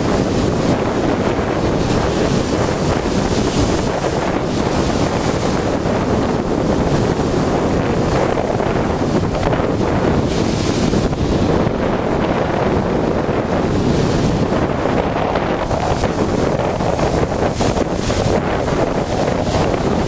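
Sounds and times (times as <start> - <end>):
storm surf breaking: 0.0 - 20.0
wind buffeting microphone: 0.0 - 20.0.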